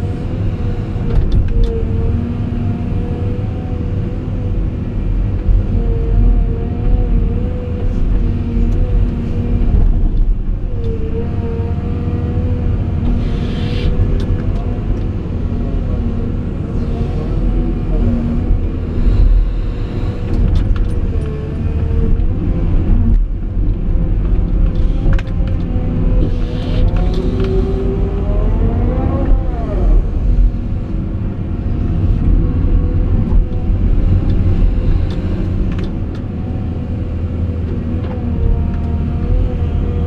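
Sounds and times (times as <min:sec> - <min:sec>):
excavator engine and hydraulic whine: 0:00.0 - 0:40.0.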